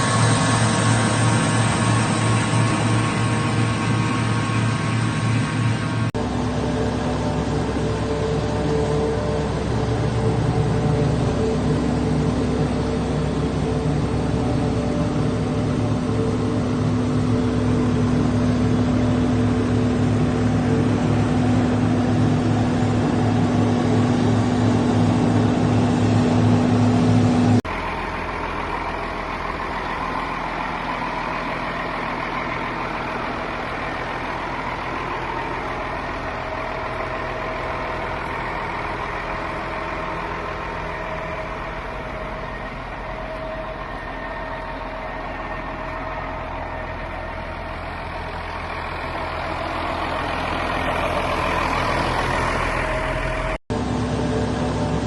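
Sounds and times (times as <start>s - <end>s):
deep diesel engine drone: 0.0s - 55.0s
higher machinery hum: 0.0s - 55.0s.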